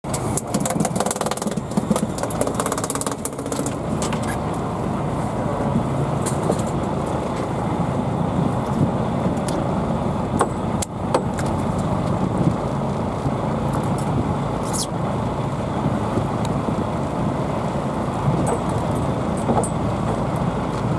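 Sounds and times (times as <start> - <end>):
boat engine running: 0.0 - 20.9
sea and wind noise: 0.1 - 20.9.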